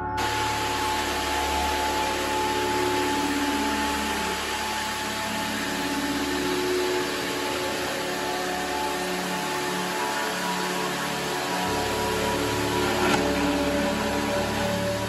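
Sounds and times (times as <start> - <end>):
floor scrubber running: 0.2 - 15.0.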